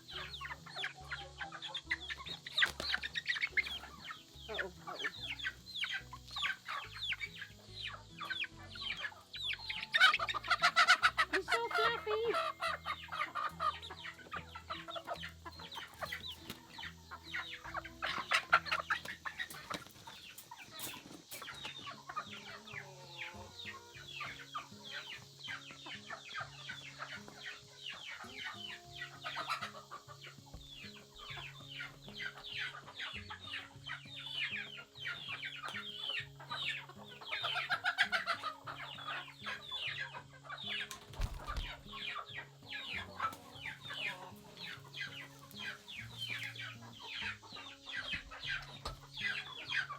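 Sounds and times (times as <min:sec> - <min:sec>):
soft background music: 0:00.0 - 0:49.9
young chickens clucking and cheeping: 0:00.0 - 0:49.9.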